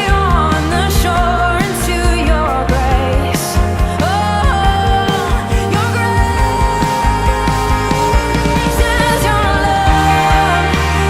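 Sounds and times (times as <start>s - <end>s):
person singing: 0.0s - 11.0s
steady drum beat: 0.0s - 11.0s.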